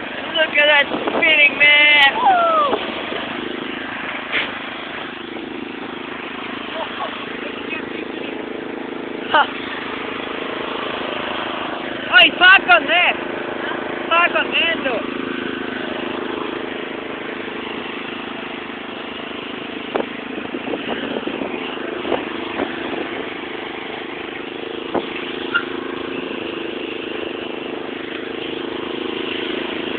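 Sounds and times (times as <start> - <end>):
lawn mower engine running: 0.0 - 29.9.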